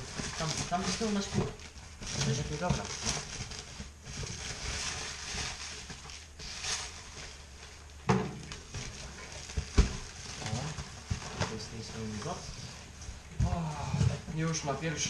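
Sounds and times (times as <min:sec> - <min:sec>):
cardboard and packing rustling: 0:00.0 - 0:15.0.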